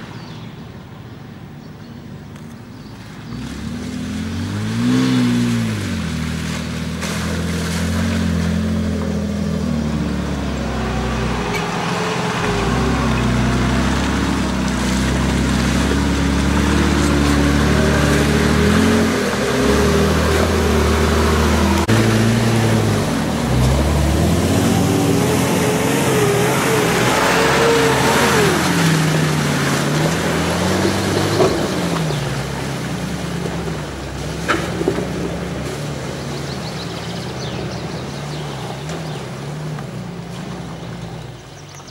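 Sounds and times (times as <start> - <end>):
off-road engines revving: 2.7 - 41.9.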